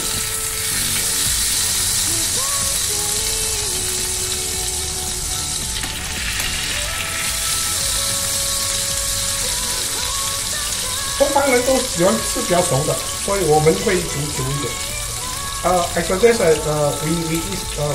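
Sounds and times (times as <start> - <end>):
steak sizzling in a pan: 0.0 - 17.9.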